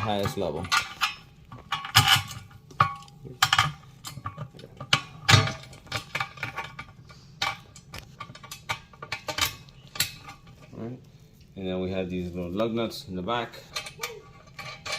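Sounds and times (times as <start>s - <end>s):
metal bracket parts clinking: 0.0s - 10.8s, 13.5s - 14.9s.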